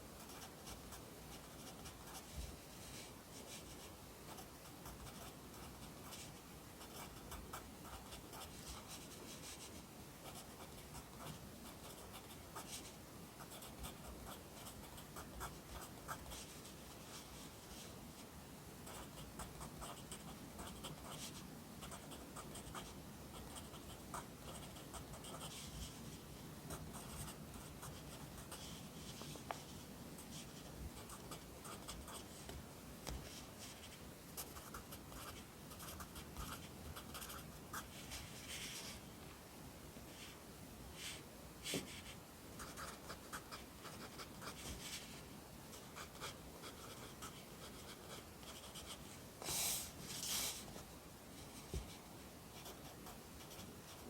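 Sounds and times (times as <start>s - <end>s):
pen scratching on paper: 0.2s - 17.5s, 18.8s - 26.0s, 26.7s - 29.5s, 30.2s - 32.3s, 33.6s - 39.0s, 41.0s - 45.1s, 45.7s - 50.7s.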